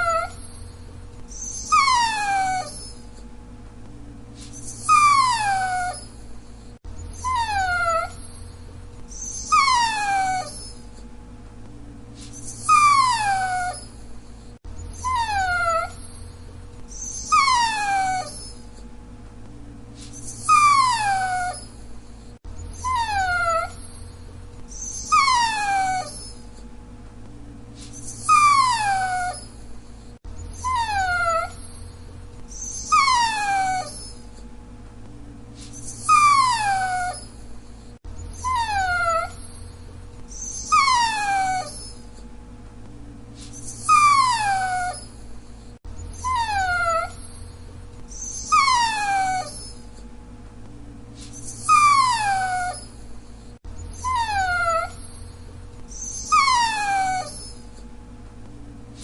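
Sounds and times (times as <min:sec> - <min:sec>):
dog whining: 0:00.0 - 0:03.3, 0:04.4 - 0:11.1, 0:12.2 - 0:18.9, 0:20.0 - 0:26.7, 0:27.8 - 0:34.5, 0:35.6 - 0:42.3, 0:43.4 - 0:50.1, 0:51.2 - 0:57.9.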